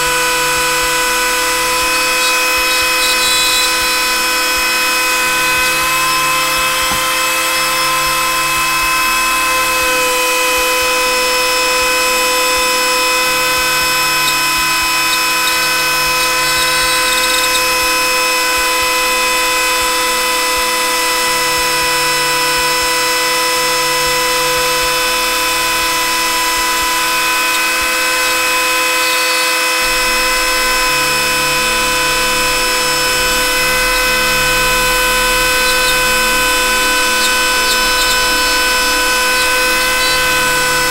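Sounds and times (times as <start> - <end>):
rotary tool motor whine: 0.0 - 40.9.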